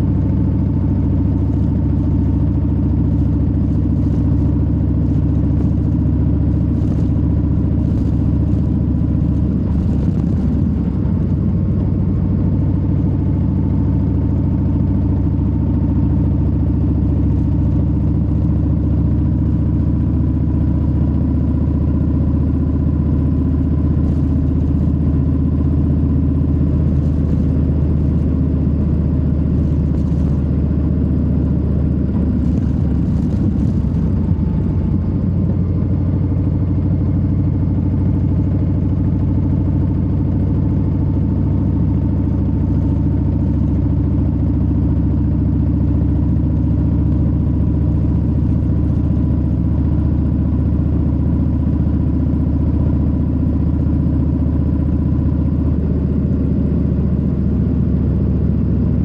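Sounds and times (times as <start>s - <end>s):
motorcycle engine cruising: 0.0s - 49.2s.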